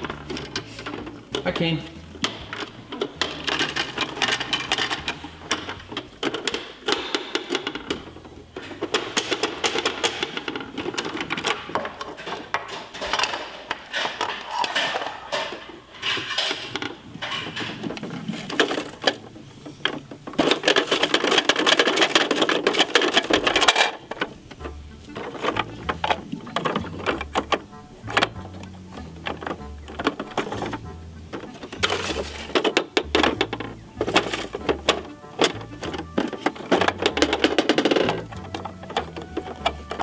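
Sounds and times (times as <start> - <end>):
plastic toy clicking and rattling: 0.0 - 40.0.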